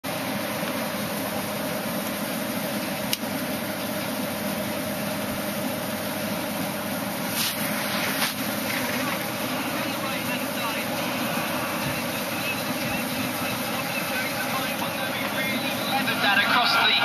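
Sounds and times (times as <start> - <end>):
radio static hiss: 0.9 - 17.0.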